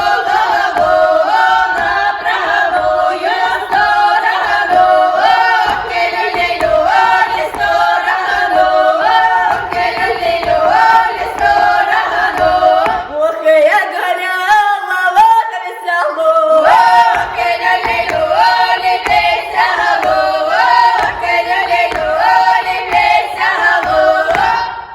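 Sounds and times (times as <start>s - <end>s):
choir singing a cappella: 0.0s - 24.9s.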